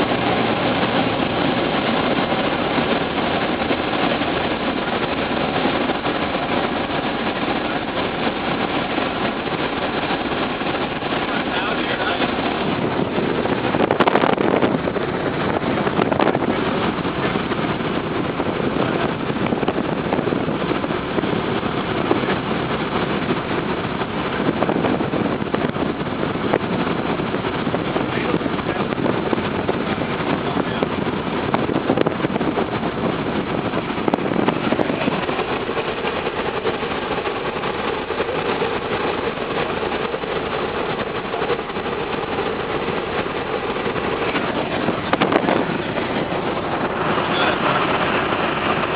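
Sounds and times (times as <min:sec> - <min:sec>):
airflow noise: 0:00.0 - 0:48.9
propeller plane engine in cabin: 0:00.0 - 0:48.9.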